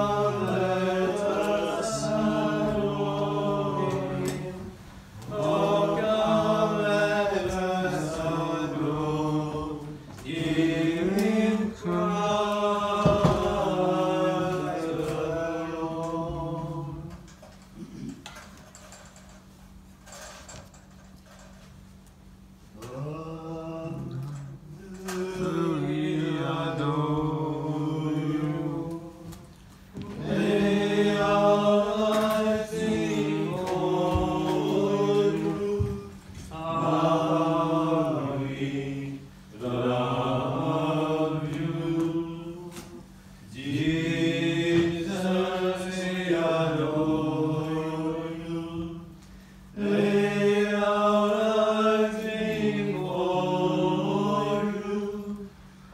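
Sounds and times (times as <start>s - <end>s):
men chanting a hymn: 0.0s - 18.1s, 22.8s - 55.6s.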